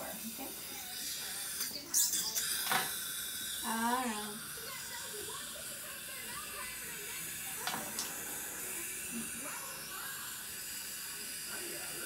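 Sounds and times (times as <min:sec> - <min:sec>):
dental equipment hissing: 0:00.0 - 0:12.0.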